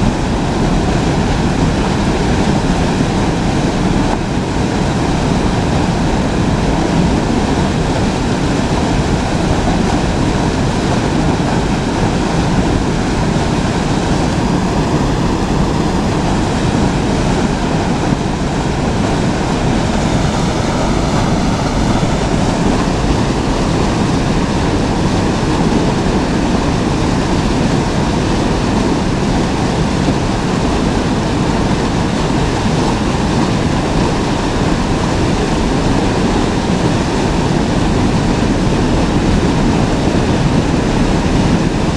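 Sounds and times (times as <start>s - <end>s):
fast-flowing river rushing: 0.0s - 41.9s.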